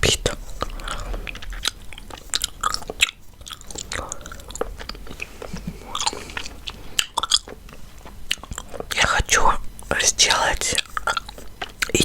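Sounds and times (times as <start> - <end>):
gum chewing smacks and clicks: 0.0 - 12.0.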